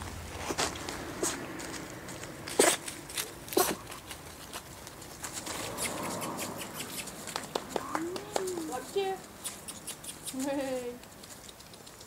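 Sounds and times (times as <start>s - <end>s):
puppies rustling through dry leaves: 0.0s - 12.0s.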